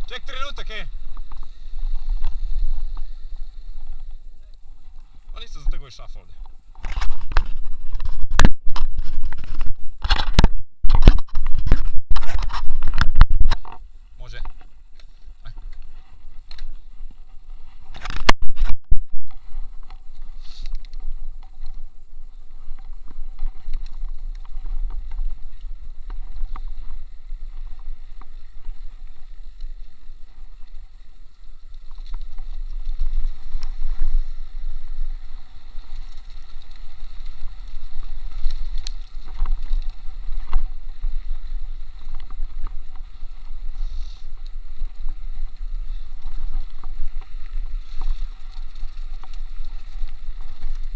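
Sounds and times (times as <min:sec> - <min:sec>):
bike rolling on dirt: 0:00.0 - 0:50.9.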